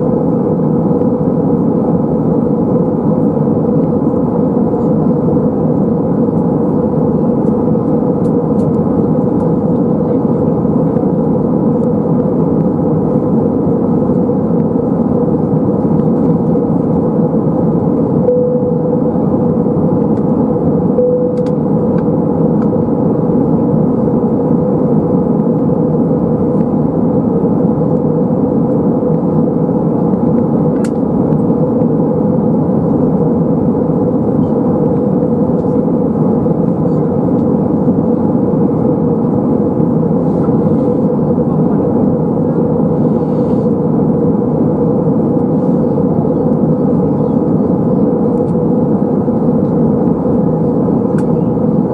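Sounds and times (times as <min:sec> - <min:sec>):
jet engines droning: 0:00.0 - 0:51.9
mid-pitched hum: 0:00.0 - 0:51.9.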